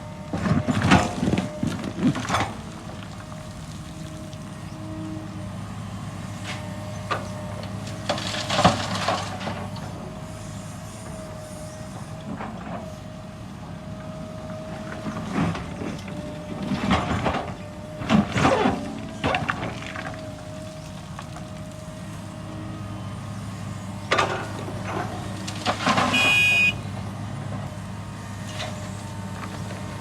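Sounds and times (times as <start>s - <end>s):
excavator engine droning: 0.0s - 30.0s.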